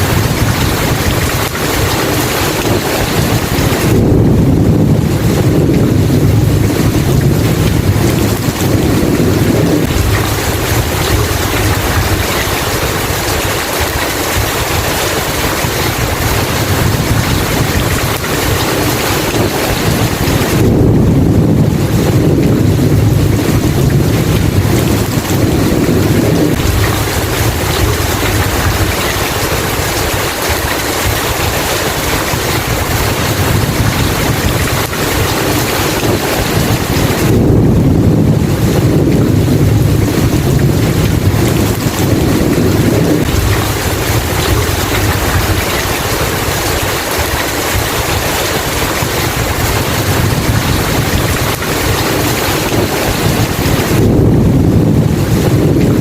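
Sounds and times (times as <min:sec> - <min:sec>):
heavy rain: 0:00.0 - 0:56.0
thunder rumbling: 0:00.0 - 0:56.0.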